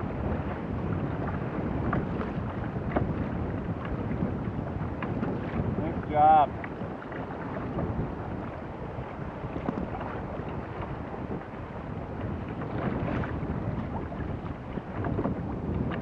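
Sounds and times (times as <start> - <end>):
water lapping against kayak: 0.0 - 16.0
wind buffeting microphone: 0.0 - 16.0.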